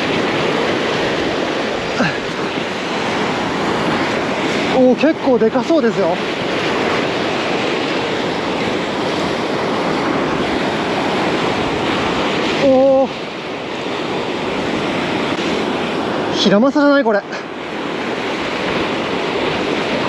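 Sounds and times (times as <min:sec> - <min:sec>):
heavy surf on boulders: 0:00.0 - 0:20.0
wind buffeting microphone: 0:00.0 - 0:20.0.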